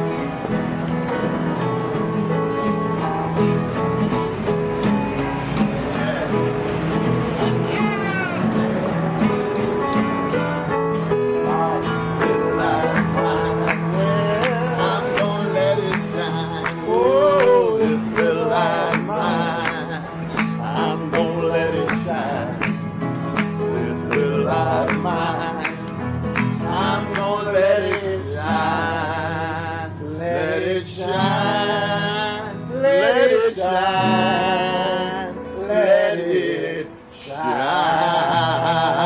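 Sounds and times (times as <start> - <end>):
guitar: 0.0 - 39.0.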